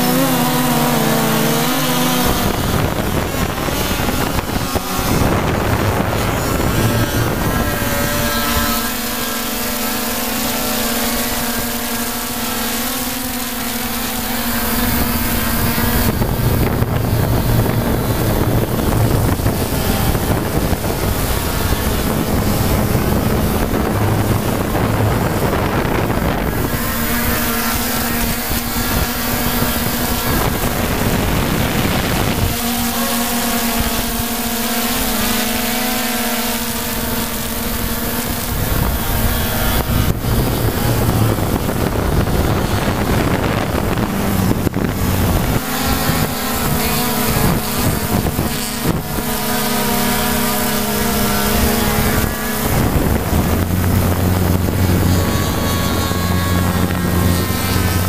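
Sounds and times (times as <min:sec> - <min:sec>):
drone motors humming: 0:00.0 - 0:58.0
wind buffeting microphone: 0:00.0 - 0:58.0.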